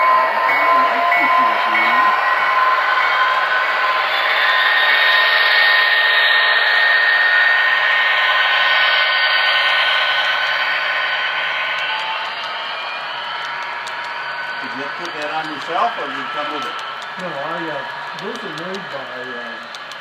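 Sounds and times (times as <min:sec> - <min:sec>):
model train whirring hiss: 0:00.6 - 0:20.0.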